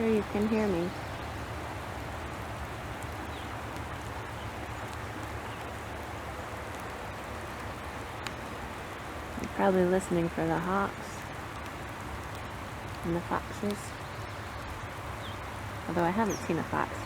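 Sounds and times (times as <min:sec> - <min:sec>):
rain drop ticks: 0:00.0 - 0:17.0
steady rain hiss: 0:00.0 - 0:17.0.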